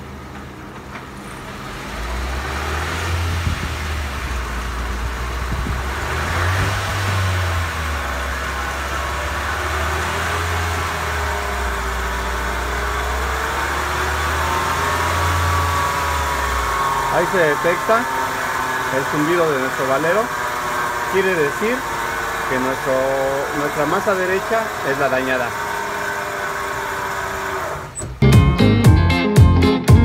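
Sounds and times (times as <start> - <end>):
wheel bearing droning hum: 0.0 - 28.2
car engine running: 0.0 - 28.8.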